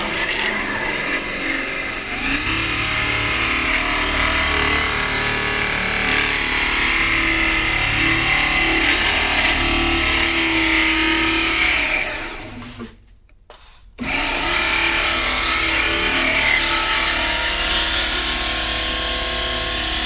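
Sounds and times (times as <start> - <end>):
electric power tool motor: 0.0 - 12.9, 14.0 - 20.0.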